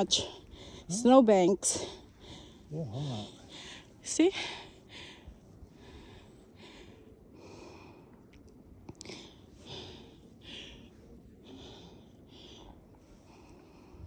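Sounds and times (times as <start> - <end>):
person breathing: 0.2 - 1.0, 2.0 - 8.2, 9.0 - 14.0.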